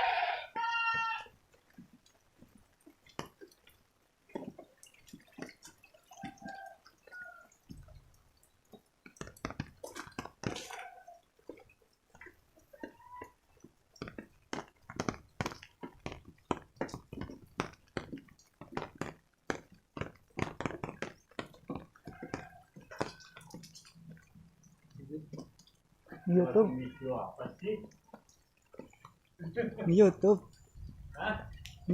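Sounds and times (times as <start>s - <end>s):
rainwater dripping: 0.0s - 31.9s.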